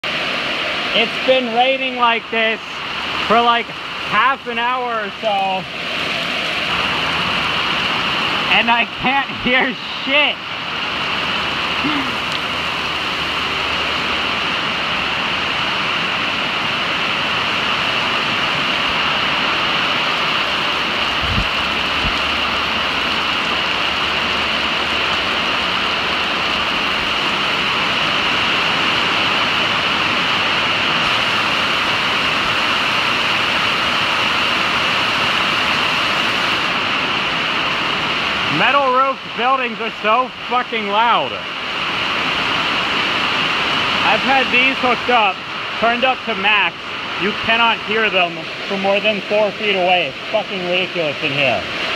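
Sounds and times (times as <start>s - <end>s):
heavy rain on metal roof: 0.0s - 51.9s.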